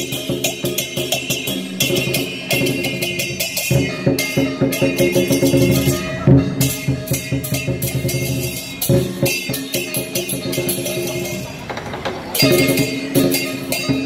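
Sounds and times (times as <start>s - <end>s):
big drum beating: 0.0s - 14.0s
clashing cymbals: 0.0s - 14.0s
gongs: 0.0s - 14.0s.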